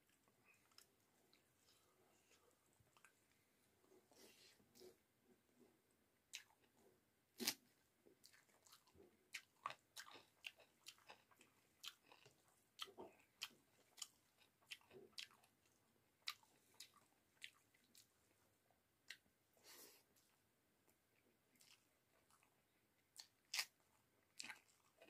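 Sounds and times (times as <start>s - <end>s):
person chewing food: 0.0s - 5.0s, 5.6s - 25.0s.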